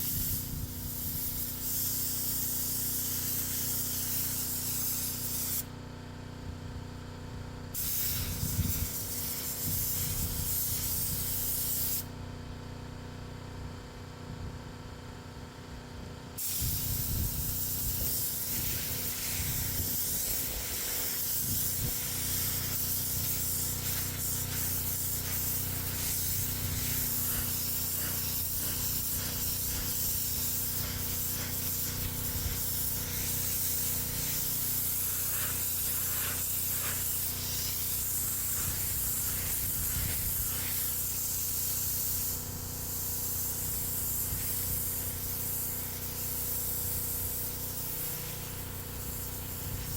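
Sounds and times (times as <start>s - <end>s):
spray gun hissing: 0.0s - 5.7s, 7.8s - 12.1s, 16.4s - 49.9s.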